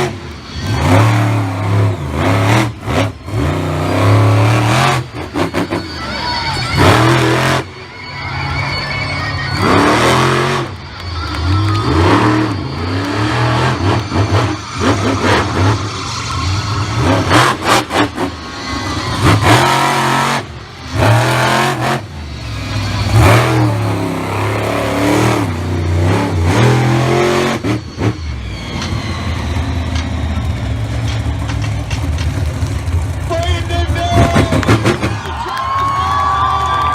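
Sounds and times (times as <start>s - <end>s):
monster truck engine revving: 0.0s - 36.9s.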